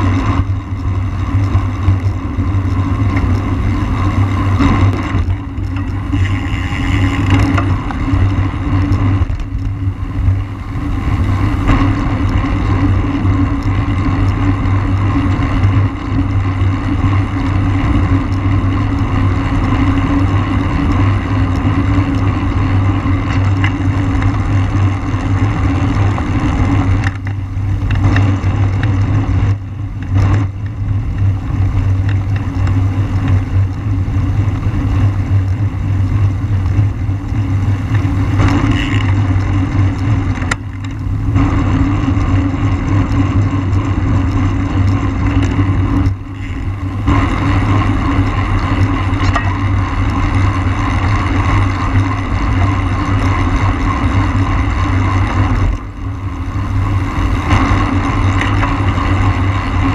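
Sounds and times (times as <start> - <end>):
tyre and road rumble: 0.0 - 59.9
wind buffeting microphone: 0.0 - 59.9.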